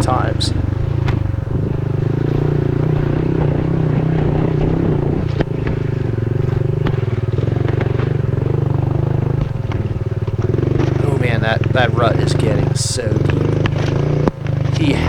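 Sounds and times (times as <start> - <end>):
bike knocking on roots: 0.0 - 15.0
dirt bike engine running: 0.0 - 15.0.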